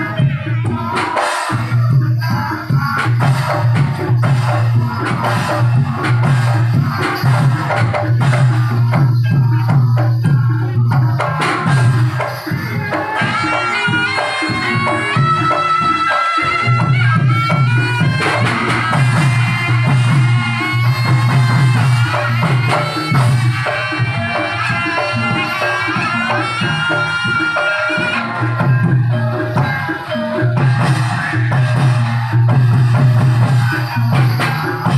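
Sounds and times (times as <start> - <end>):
drum and percussion rhythm: 0.0 - 34.9
high melody line: 3.6 - 34.9.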